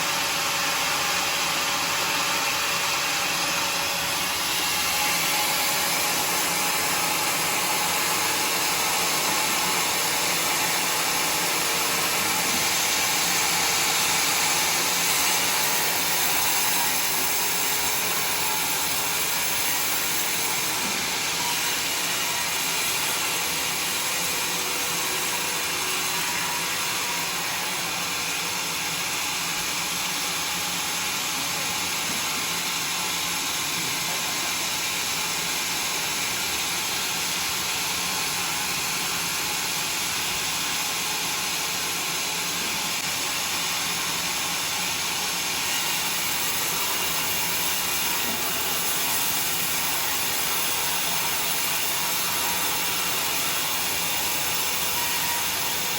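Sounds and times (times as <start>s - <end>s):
sawmill saw running: 0.0s - 55.9s.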